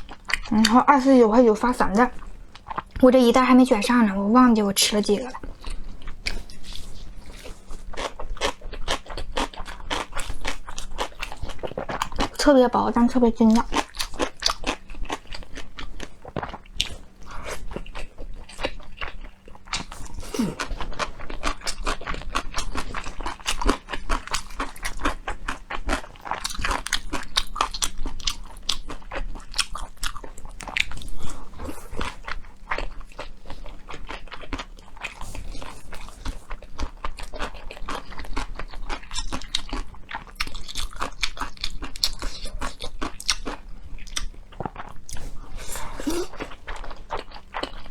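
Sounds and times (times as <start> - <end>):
chewing crisp food: 0.0 - 0.9, 1.7 - 4.0, 4.9 - 47.9.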